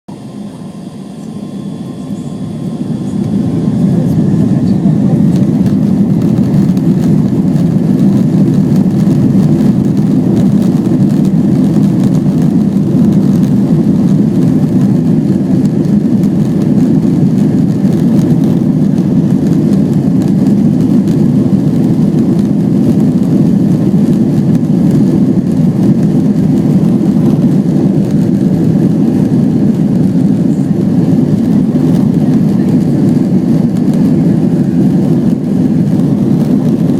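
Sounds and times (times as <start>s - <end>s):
jet engines low rumble: 0.1s - 36.9s.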